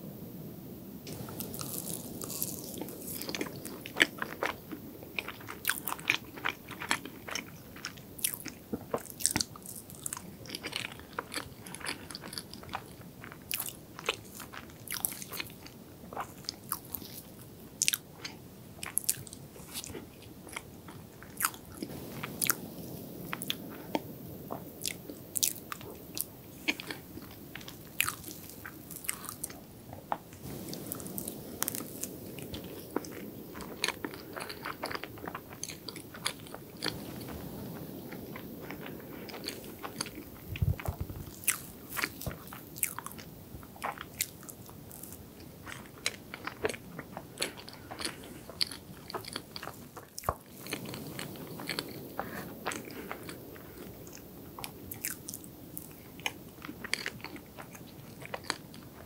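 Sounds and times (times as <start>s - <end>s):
close chewing mouth sounds: 1.1s - 59.0s.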